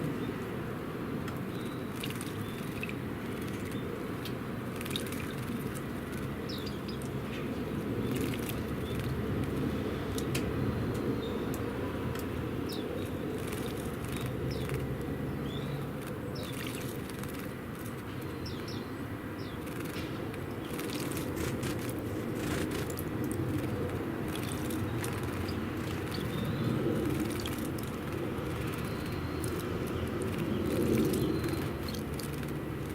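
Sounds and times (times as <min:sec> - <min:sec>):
small songbirds chirping: 0:01.2 - 0:32.9.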